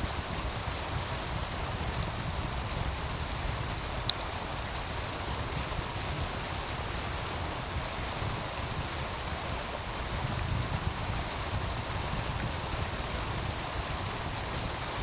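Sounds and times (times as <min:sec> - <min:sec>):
meltwater stream rushing: 0:00.0 - 0:15.0
wood fire crackling: 0:00.0 - 0:15.0.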